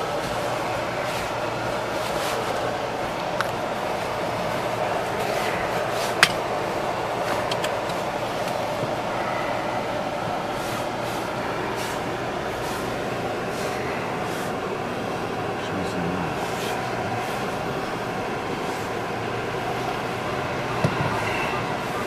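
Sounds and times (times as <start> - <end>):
car cabin running noise: 0.0 - 22.0.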